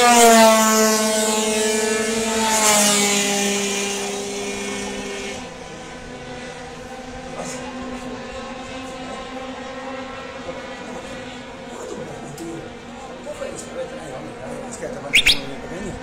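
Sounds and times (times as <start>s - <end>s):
racing scooters passing: 0.0s - 16.0s.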